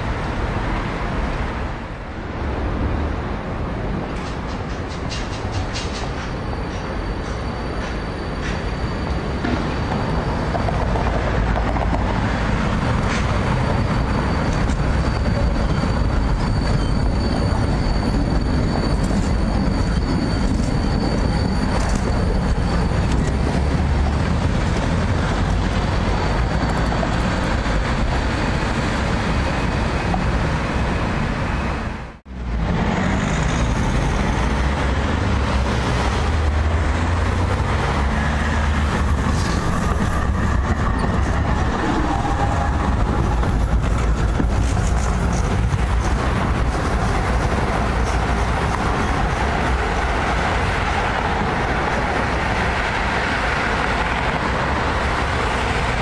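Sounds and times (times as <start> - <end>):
tram wheels rolling on rails: 0.0 - 56.0.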